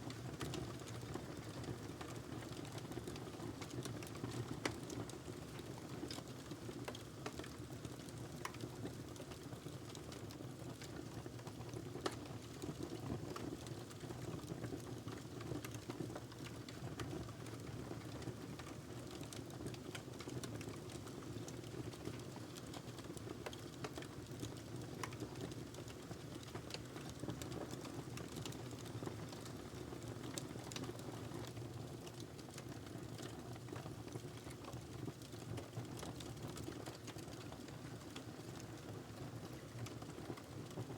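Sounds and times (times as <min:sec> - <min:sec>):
fire crackling and popping: 0:00.4 - 0:40.9.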